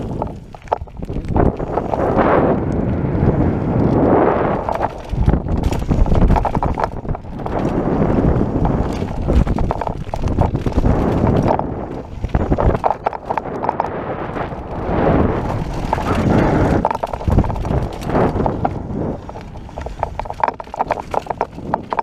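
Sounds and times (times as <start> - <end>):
tyres crunching over dirt and rocks: 0.0 - 2.2, 3.7 - 22.0
bike chain and frame rattling: 0.0 - 22.0
wind rumbling on microphone: 0.0 - 22.0.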